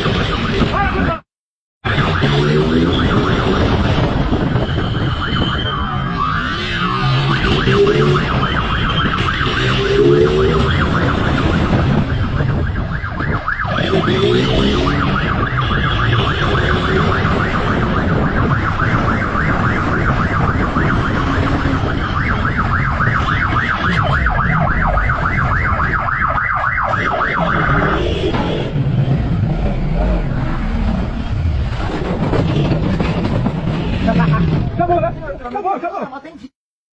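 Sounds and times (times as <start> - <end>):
electronic siren yelping: 0.0 - 1.2, 1.8 - 31.5
wind at speed: 1.8 - 35.4.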